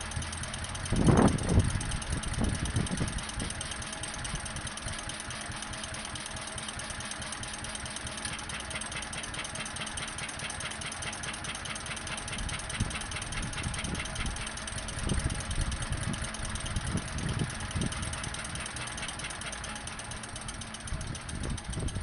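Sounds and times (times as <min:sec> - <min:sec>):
stationary engine running: 0:00.0 - 0:22.0.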